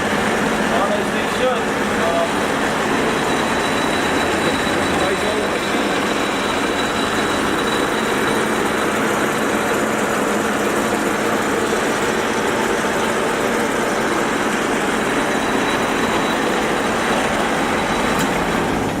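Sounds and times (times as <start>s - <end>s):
lathe gears whirring with whine: 0.0s - 19.0s.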